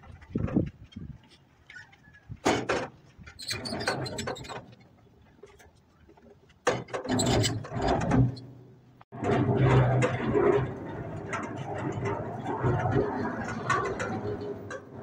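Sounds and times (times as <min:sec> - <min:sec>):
concrete mixer drum rattling and creaking: 0:00.0 - 0:15.0.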